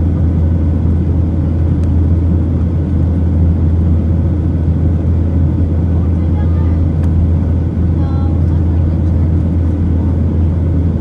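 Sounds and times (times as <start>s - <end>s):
airplane cabin rumble in flight: 0.0s - 11.0s.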